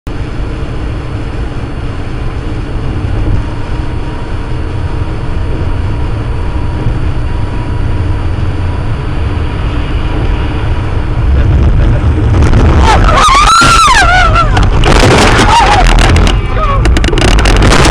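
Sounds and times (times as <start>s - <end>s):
vehicle engine and road rumble: 0.0s - 17.9s.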